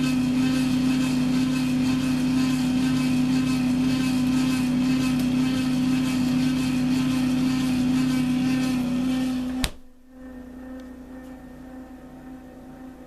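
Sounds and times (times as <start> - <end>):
refrigerator buzzing hum: 0.0 - 13.0.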